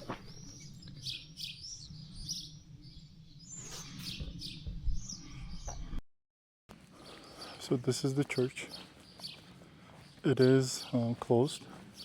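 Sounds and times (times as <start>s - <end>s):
small birds chirping: 0.0s - 6.0s, 6.7s - 12.0s.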